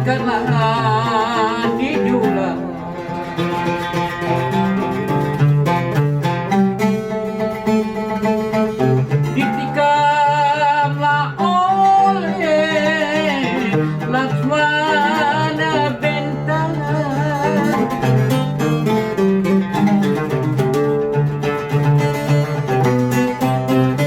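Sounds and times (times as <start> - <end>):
ornamented melody line: 0.0 - 24.0
plucked strings: 0.0 - 24.0.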